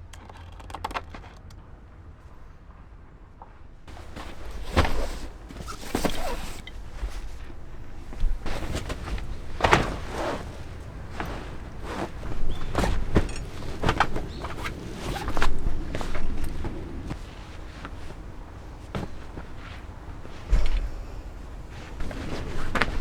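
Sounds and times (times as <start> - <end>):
footsteps: 3.9 - 23.0.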